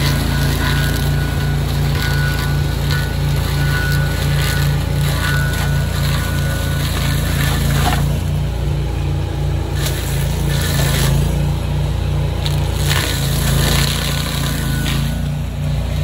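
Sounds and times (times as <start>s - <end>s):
mulcher engine droning: 0.0s - 16.0s
rotor crackling through brush: 0.0s - 16.0s.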